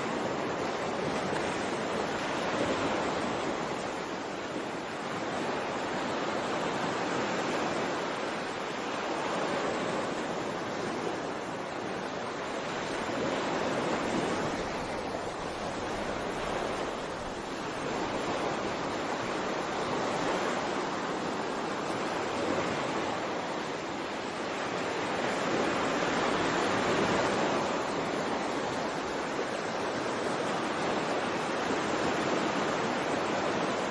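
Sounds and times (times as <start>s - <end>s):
waves washing in: 0.0s - 33.9s.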